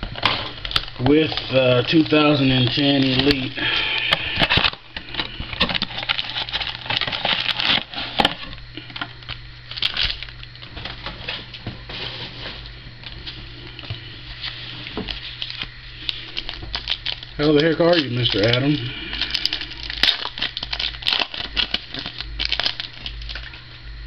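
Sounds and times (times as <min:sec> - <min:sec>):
low steady hum: 0:00.0 - 0:24.0
packaging crackling and rustling: 0:00.0 - 0:24.0.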